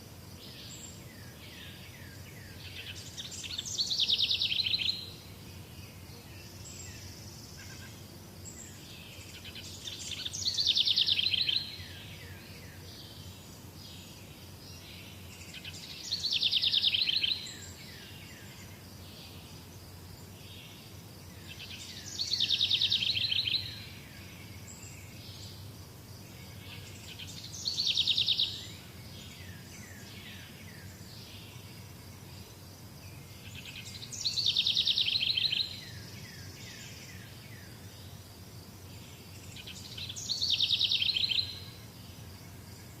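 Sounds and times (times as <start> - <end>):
steady outdoor background: 0.0 - 43.0
faint bird chirps: 0.4 - 38.2, 38.8 - 43.0
songbird trilled song: 0.5 - 25.7, 26.3 - 38.2, 38.9 - 43.0.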